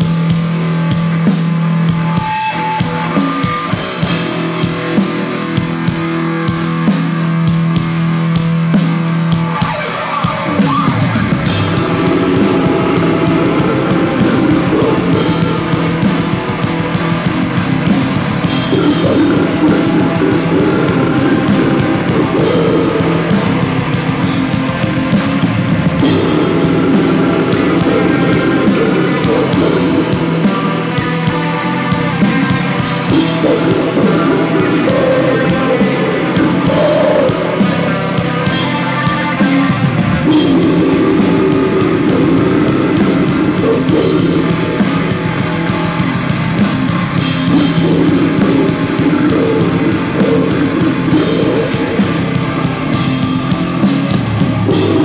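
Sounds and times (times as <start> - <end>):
black metal band playing live: 0.0 - 55.0
distorted guitar pitch slide: 9.4 - 55.0.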